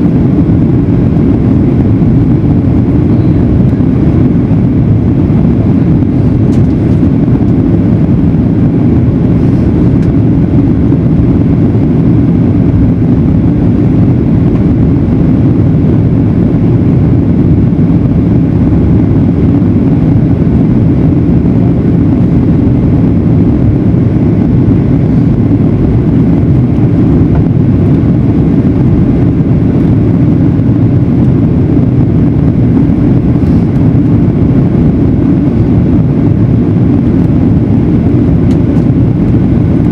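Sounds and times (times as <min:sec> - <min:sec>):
air rushing along fuselage: 0:00.0 - 0:39.9
jet engines droning in cabin: 0:00.0 - 0:39.9.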